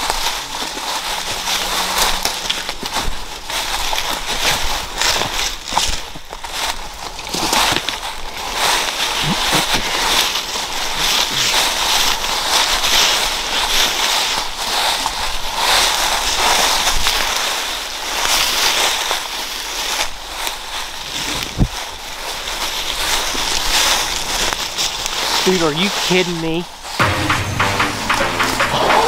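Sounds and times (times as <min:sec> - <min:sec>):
footsteps crunching through dry leaves: 0:00.0 - 0:27.4.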